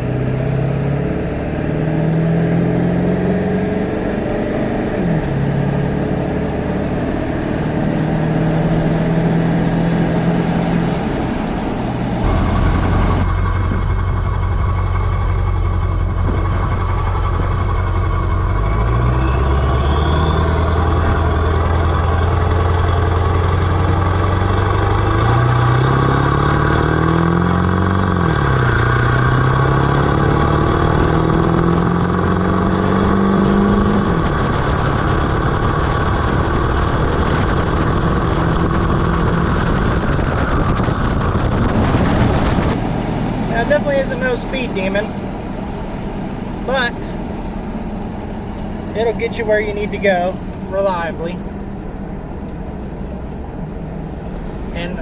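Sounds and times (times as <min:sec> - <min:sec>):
diesel truck engine accelerating: 0:00.0 - 0:55.0.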